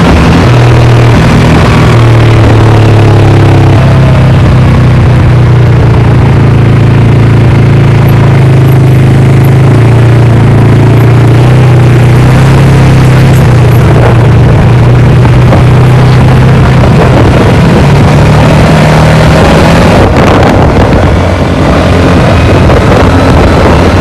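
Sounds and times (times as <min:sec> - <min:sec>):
quad bike engine running: 0:00.0 - 0:24.0.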